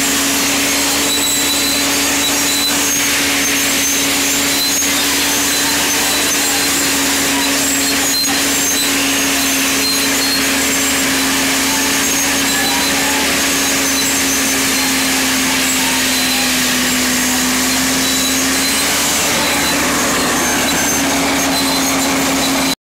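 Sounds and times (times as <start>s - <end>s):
bulldozer diesel engine under load: 0.0s - 22.8s.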